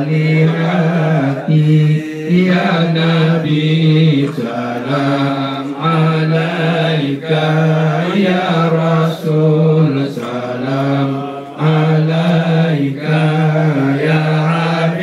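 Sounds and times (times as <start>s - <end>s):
low male chanting: 0.0s - 15.0s.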